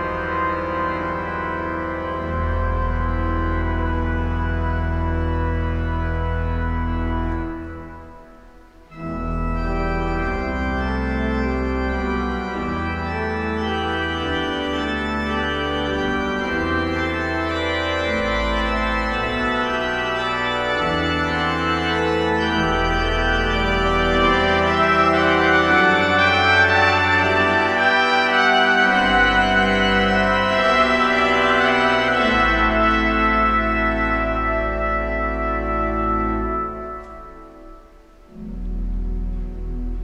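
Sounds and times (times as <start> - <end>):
organ playing sustained chords: 0.0 - 40.0.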